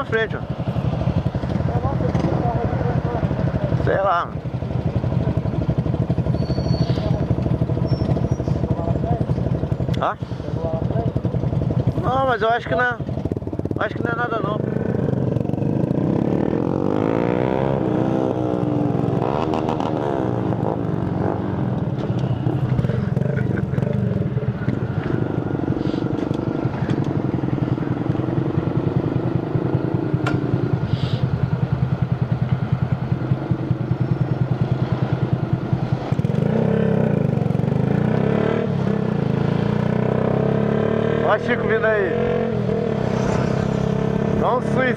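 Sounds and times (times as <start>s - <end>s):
moped engine revving: 0.0s - 44.9s.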